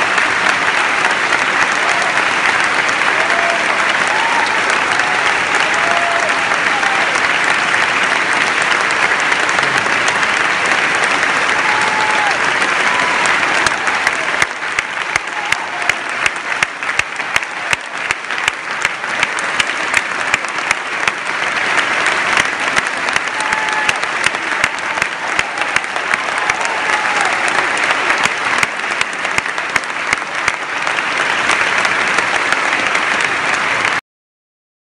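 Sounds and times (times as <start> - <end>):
audience applauding: 0.0 - 34.0
sharp claps near microphone: 0.0 - 34.0.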